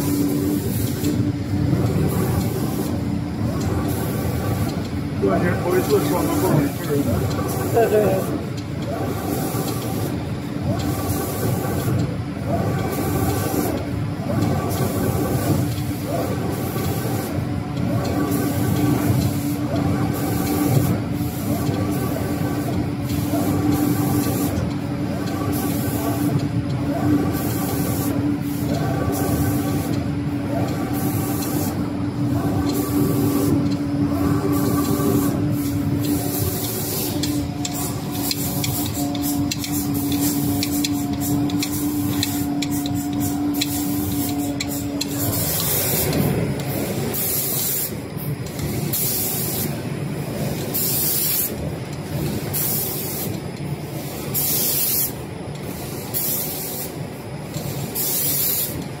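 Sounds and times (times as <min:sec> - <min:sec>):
spray guns hissing in bursts: 0:00.0 - 0:59.0
steady machine hum: 0:00.0 - 0:59.0.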